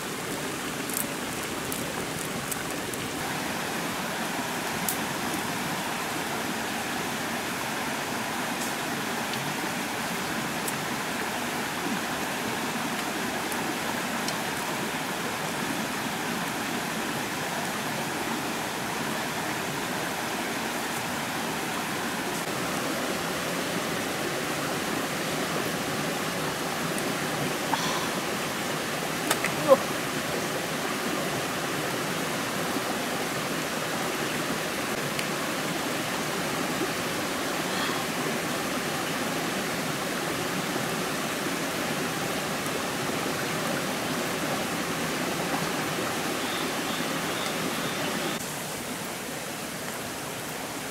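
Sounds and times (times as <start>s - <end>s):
stream rushing: 0.0s - 50.9s.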